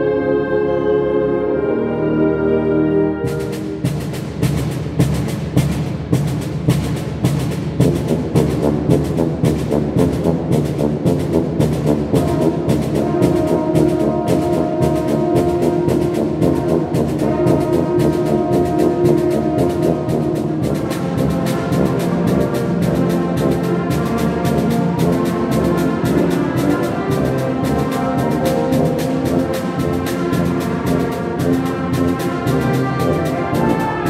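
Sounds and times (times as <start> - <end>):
saxophones and brass playing: 0.0 - 3.9, 8.1 - 34.0
sustained brass chords: 0.0 - 4.1, 8.0 - 34.0
percussion beat: 3.3 - 34.0.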